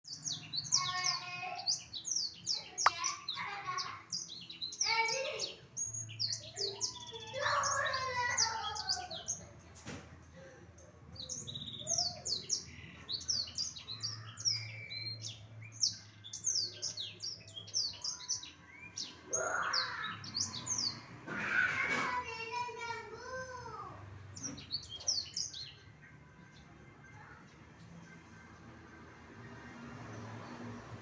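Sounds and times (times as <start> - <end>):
canary singing chirps and trills: 0.0 - 21.2, 21.8 - 28.7.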